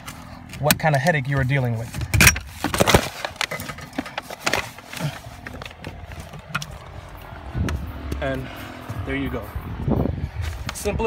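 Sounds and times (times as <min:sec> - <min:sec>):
blower motor knocking and scraping: 0:00.0 - 0:11.0.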